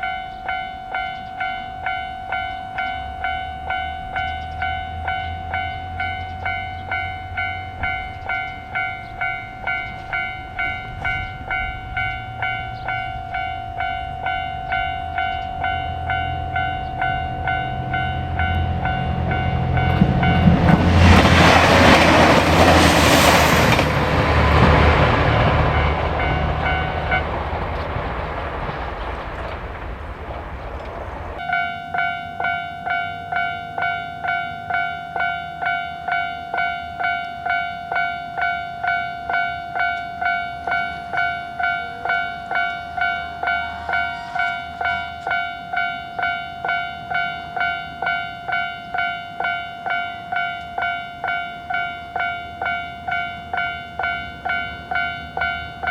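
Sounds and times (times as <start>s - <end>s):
level crossing warning bell: 0.0s - 27.9s, 31.4s - 55.9s
train rumbling past: 0.0s - 55.9s.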